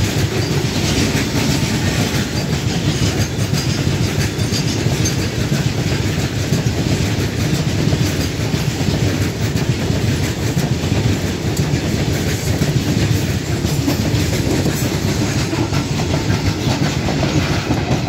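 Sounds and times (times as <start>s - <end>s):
freight train rolling past: 0.0s - 18.0s
wheels clicking over rail joints: 0.0s - 18.0s.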